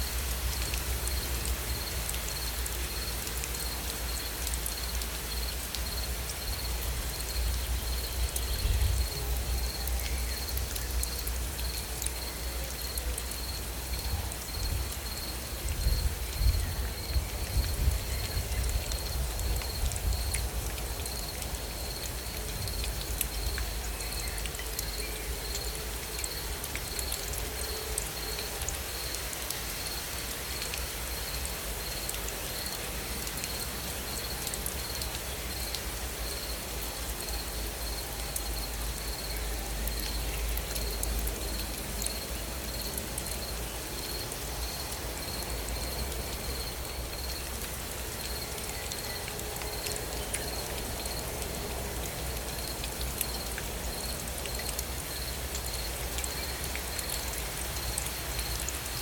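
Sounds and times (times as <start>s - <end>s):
gentle rain falling: 0.0s - 59.0s.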